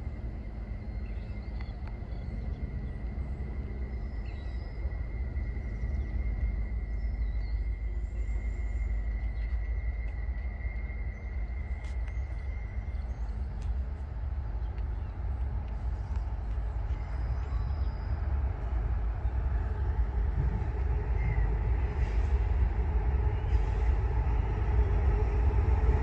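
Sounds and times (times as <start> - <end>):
diesel locomotive rumble: 0.0 - 26.0.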